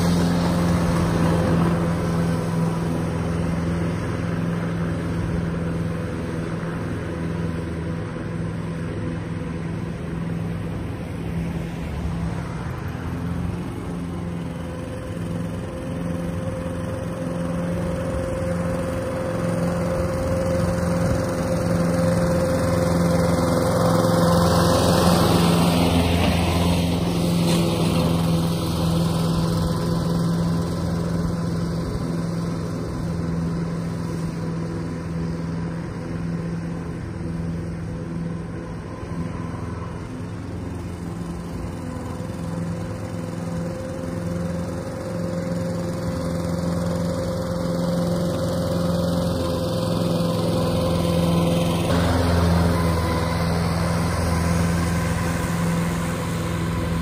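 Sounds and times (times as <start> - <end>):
lawn mower running: 0.0 - 57.0.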